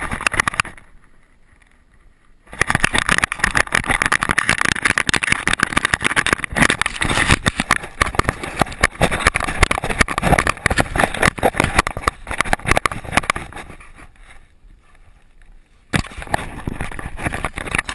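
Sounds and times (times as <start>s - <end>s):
camera knocking and rattling: 0.0s - 0.9s, 2.5s - 14.2s, 15.9s - 17.9s.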